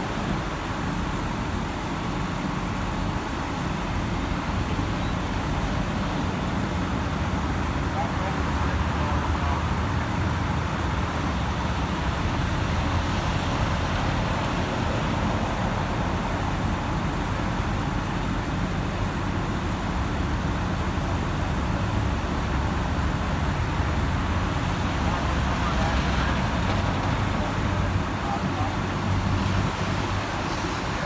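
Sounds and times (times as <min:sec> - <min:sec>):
construction equipment diesel rumble: 0:00.0 - 0:31.0.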